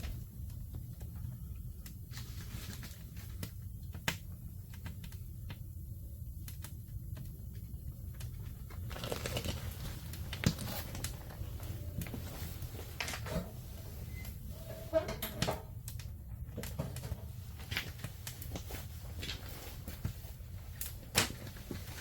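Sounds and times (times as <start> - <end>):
low steady rumble: 0.0 - 22.0
wood fire crackling: 0.0 - 22.0.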